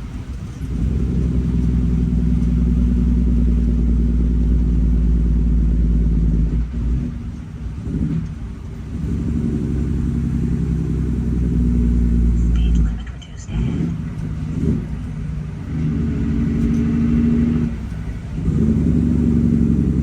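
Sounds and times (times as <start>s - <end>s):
diesel truck engine pulling: 0.0s - 20.0s.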